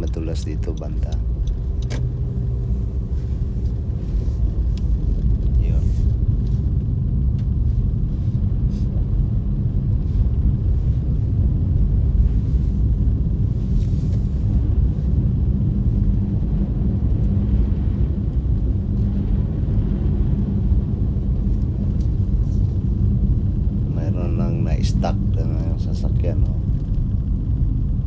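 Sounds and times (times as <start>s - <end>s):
car driving on snowy road: 0.0s - 28.0s.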